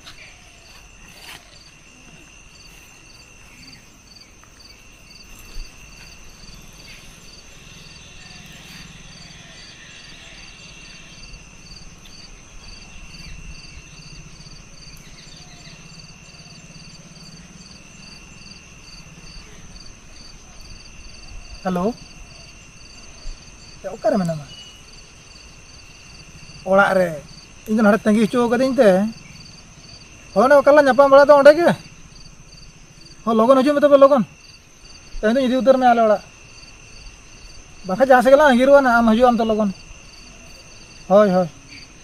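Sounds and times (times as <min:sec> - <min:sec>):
crickets chirping: 0:00.0 - 0:42.0
insects buzzing: 0:00.0 - 0:42.0.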